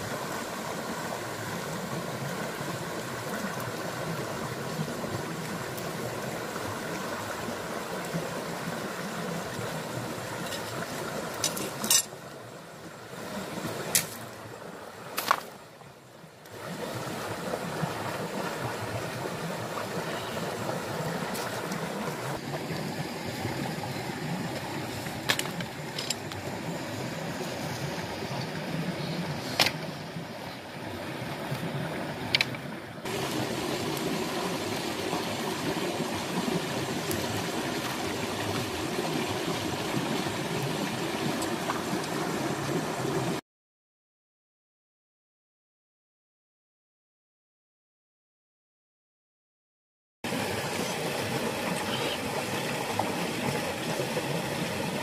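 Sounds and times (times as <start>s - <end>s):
stream water rushing: 0.0s - 43.4s, 50.2s - 55.0s.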